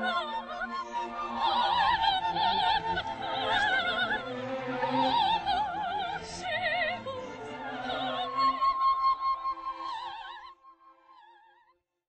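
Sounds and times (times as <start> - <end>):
operatic voice singing: 0.0 - 10.4.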